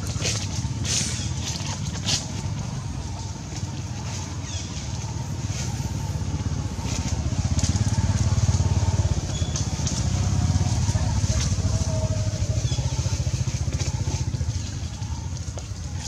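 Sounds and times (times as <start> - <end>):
vehicle engine throbbing: 0.0 - 16.0.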